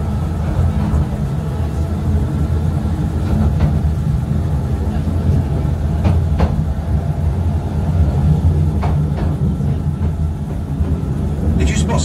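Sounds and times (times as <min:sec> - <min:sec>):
train wheels rumbling in tunnel: 0:00.0 - 0:12.0.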